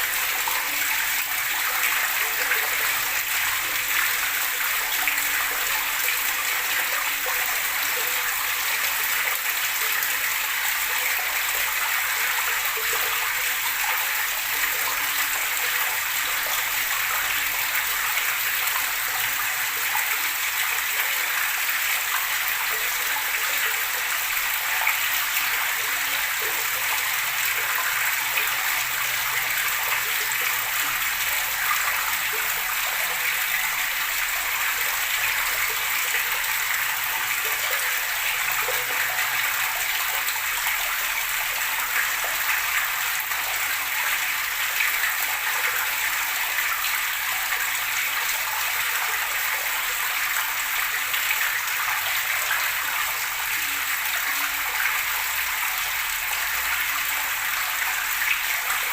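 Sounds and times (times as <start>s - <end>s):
water gurgling and rushing: 0.0s - 58.9s.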